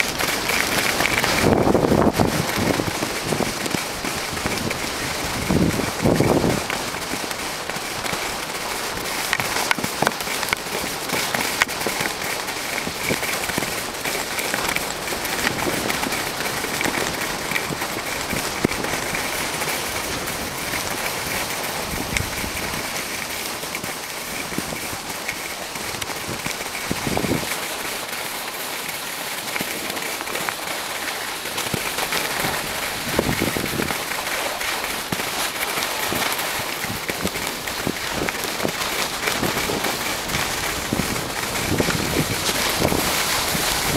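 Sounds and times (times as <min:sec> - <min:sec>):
skis scraping over snow: 0:00.0 - 0:43.9
wind rumble on microphone: 0:00.0 - 0:43.9.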